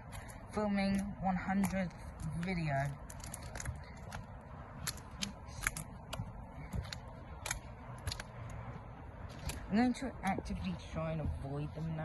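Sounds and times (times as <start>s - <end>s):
acorns cracking underfoot: 0.0s - 9.7s
soft footsteps: 0.0s - 12.0s.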